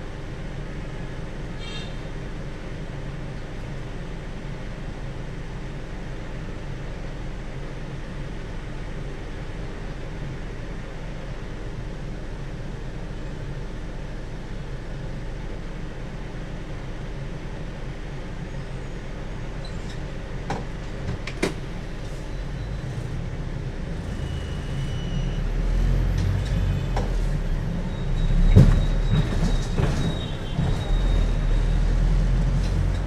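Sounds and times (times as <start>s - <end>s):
bus drivetrain humming: 0.0s - 33.0s.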